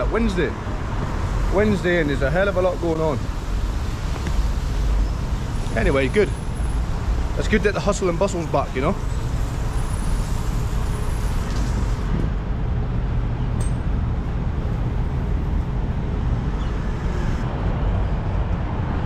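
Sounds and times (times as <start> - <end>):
city road traffic rumble: 0.0 - 19.0.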